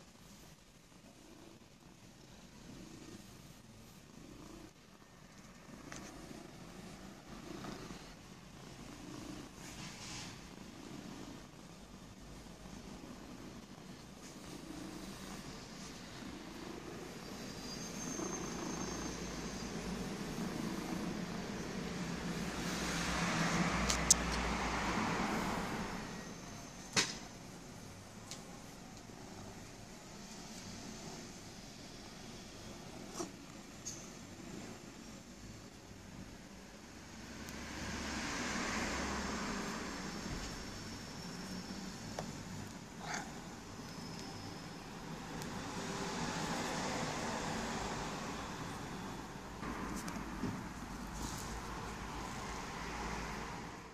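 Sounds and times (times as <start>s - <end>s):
cat purring: 0.0s - 37.9s, 39.4s - 52.7s
road vehicle passing: 5.7s - 53.9s.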